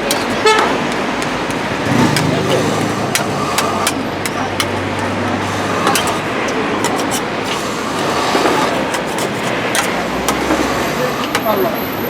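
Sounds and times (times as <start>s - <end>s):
metal spatulas scraping cold plate: 0.0s - 11.6s.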